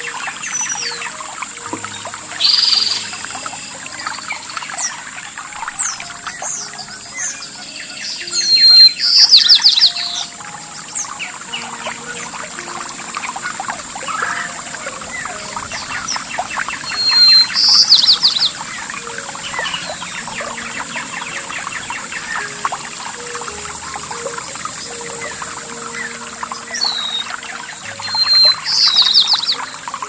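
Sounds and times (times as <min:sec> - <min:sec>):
songbird whistle and trill: 0:00.0 - 0:30.0
water trickling: 0:00.0 - 0:30.0.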